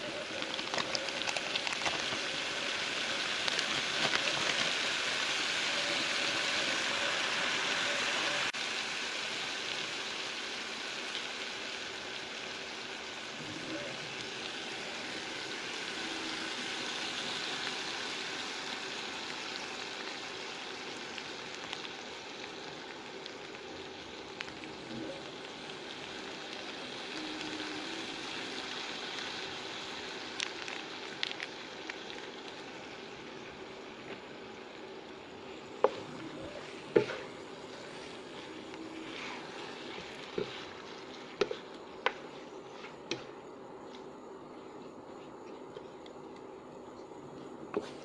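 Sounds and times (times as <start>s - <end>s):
chicken sizzling in oil: 0.0s - 42.4s.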